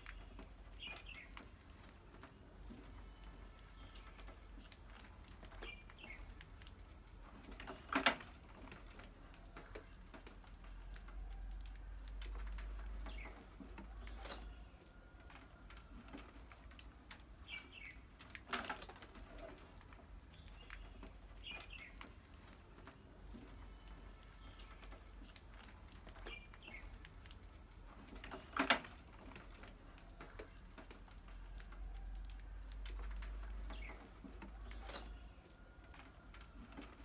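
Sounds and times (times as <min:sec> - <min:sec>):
mice moving in cage: 0:00.0 - 0:37.0.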